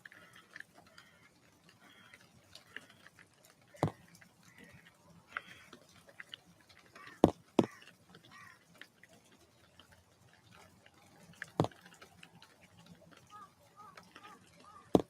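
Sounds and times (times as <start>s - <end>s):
light scattered ticking: 0.0s - 15.0s.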